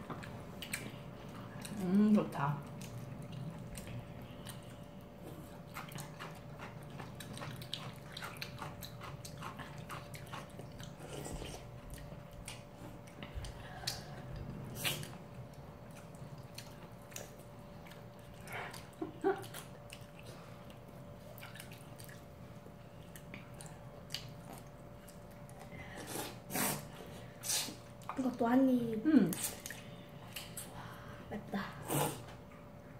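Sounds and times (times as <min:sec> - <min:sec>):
chewing noodles: 0:00.0 - 0:02.0, 0:02.6 - 0:28.2.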